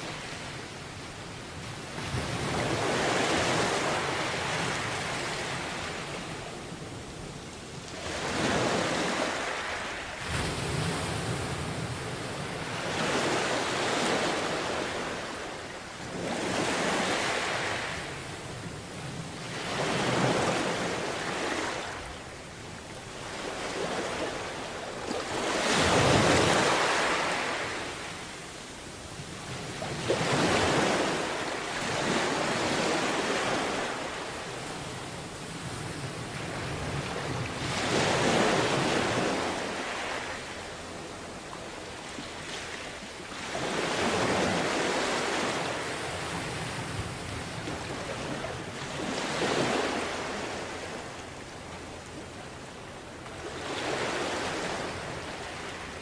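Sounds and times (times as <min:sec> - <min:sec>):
sea waves washing onto beach: 0:00.0 - 0:56.0.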